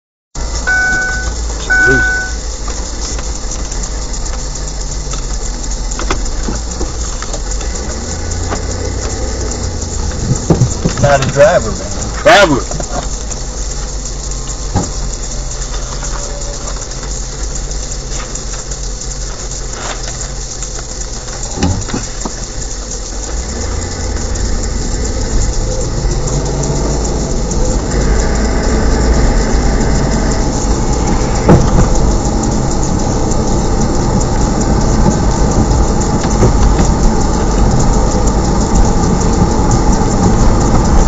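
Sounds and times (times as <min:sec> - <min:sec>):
car road and engine rumble: 0:00.4 - 0:41.0.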